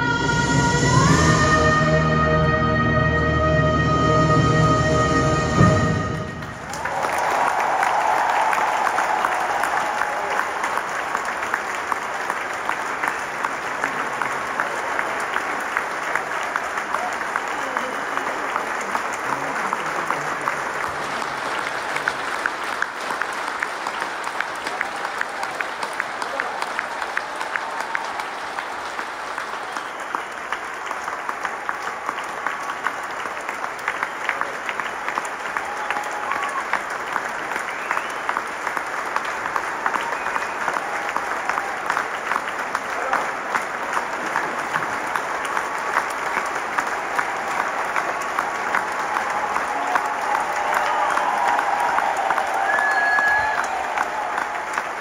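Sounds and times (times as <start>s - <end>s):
crowd applauding: 0.0s - 55.0s.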